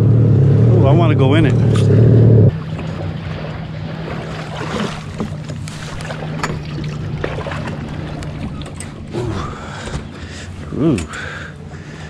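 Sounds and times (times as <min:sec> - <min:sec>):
personal watercraft idling: 0:00.7 - 0:12.0.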